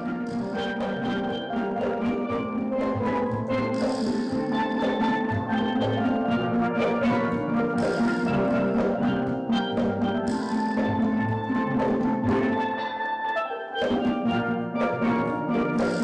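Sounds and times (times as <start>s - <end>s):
steel drum band playing: 0.0s - 13.2s, 13.8s - 16.0s
percussion: 0.0s - 16.0s.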